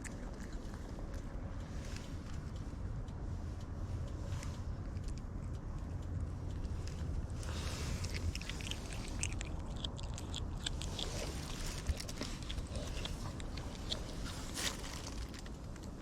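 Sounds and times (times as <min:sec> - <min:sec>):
cat chewing meat: 0:00.0 - 0:02.6, 0:04.2 - 0:16.0
steady low rumble: 0:00.0 - 0:16.0.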